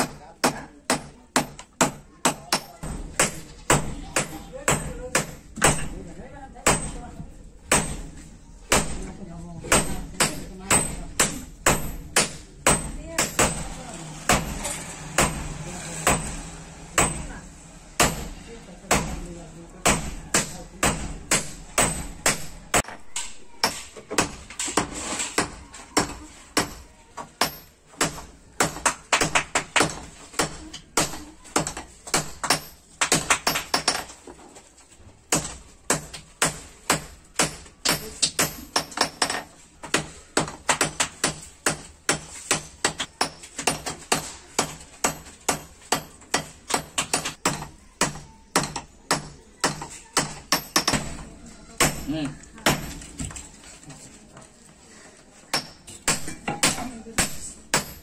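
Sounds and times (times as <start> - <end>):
hammers striking steel on anvil: 0.0 - 6.0, 6.6 - 17.4, 18.0 - 23.0, 23.6 - 34.1, 35.3 - 51.2, 51.8 - 53.0, 55.5 - 58.0.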